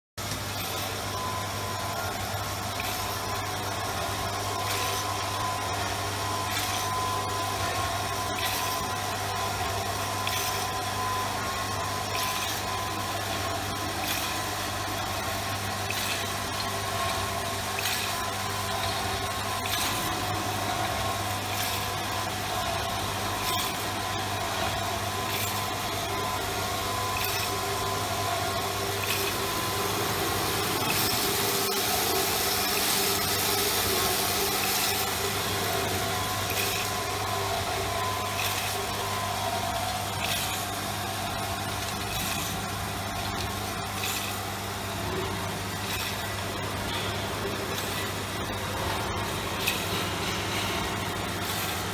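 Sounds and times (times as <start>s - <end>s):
machine clacking: 0.2s - 51.9s
machine motor hum: 0.2s - 51.9s.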